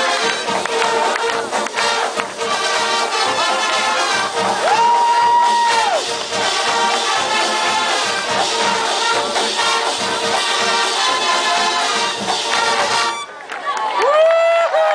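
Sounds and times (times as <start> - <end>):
brass band playing: 0.0 - 13.4.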